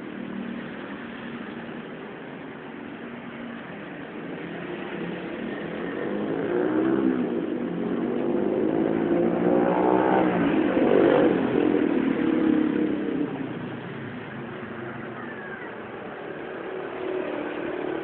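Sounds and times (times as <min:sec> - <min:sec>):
vehicles passing on wet road: 0:00.0 - 0:18.0.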